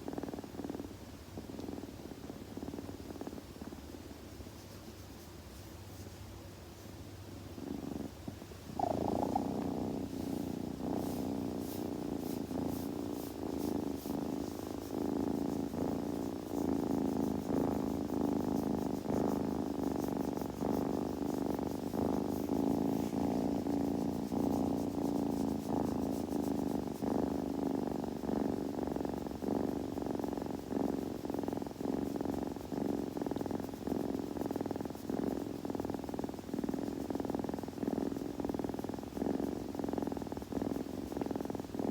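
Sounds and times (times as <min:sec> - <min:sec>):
kitten purring: 0:00.0 - 0:41.9.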